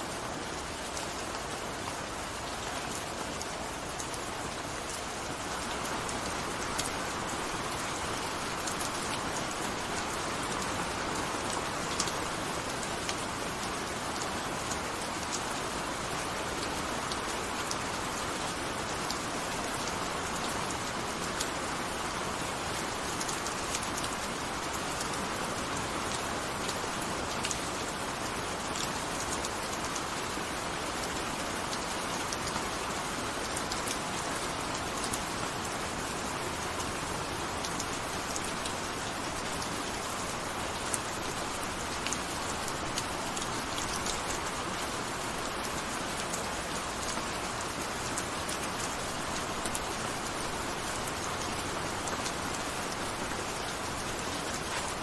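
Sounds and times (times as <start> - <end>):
gentle rain hissing: 0.0 - 55.0.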